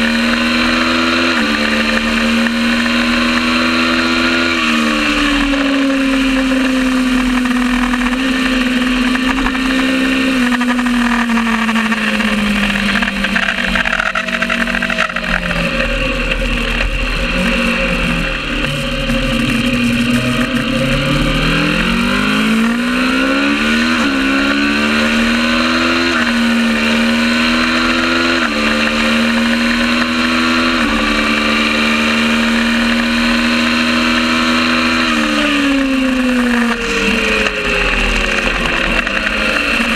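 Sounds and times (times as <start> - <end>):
race bike engine revving: 0.0 - 39.9.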